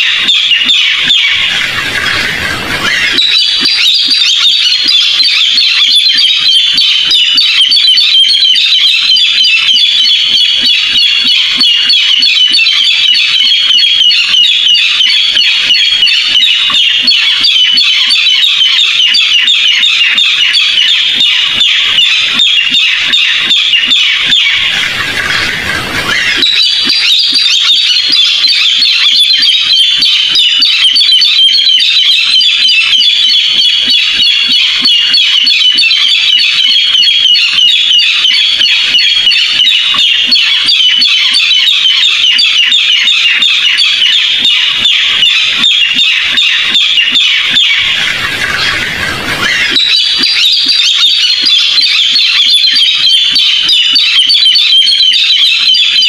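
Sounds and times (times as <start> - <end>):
bird call harsh repeated notes: 0.0 - 56.0.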